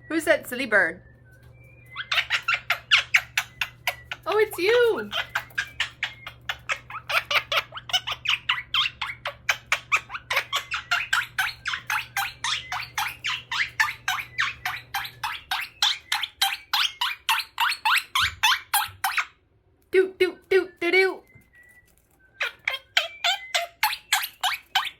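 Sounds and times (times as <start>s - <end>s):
parrot squawking: 1.9s - 19.4s, 22.4s - 24.9s.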